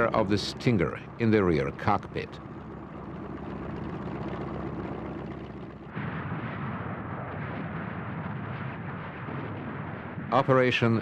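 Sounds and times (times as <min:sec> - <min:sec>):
gunfire and explosions roar: 0:00.0 - 0:11.0.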